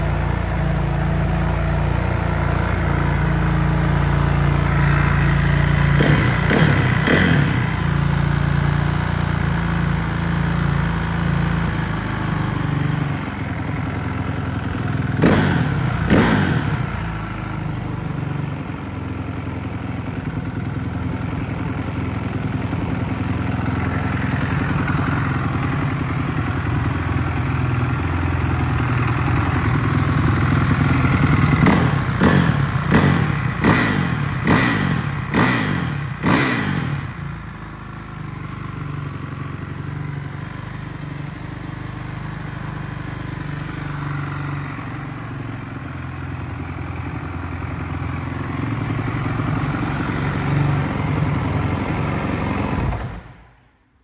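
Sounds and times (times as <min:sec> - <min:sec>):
motorcycle engine revving: 0:00.0 - 0:53.7.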